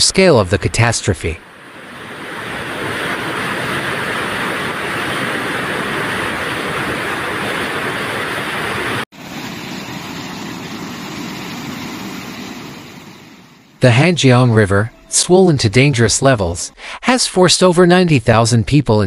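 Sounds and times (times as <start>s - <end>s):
floodwater torrent rushing: 0.0s - 13.1s, 13.8s - 16.7s.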